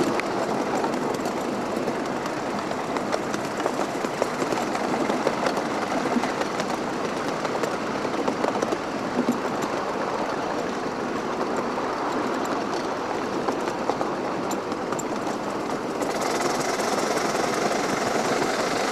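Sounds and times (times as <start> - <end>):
model steam locomotive running: 0.0 - 18.9
wheels clicking on rails: 0.0 - 18.9.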